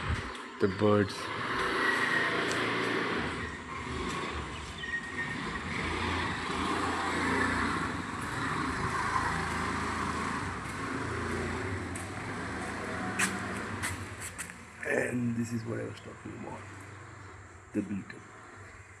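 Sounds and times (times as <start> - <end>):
birds chirping: 0.0 - 19.0
road traffic rumble: 0.0 - 19.0.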